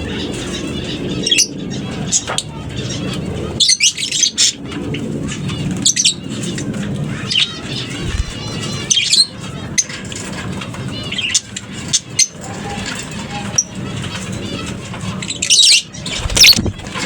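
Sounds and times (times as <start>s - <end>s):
lovebirds chattering and chirping: 0.0s - 17.0s.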